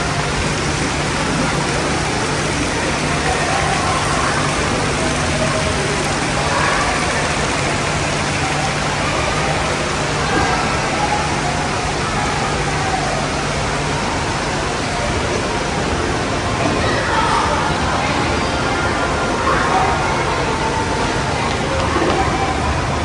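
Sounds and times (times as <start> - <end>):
fountain jets splashing: 0.0 - 23.0.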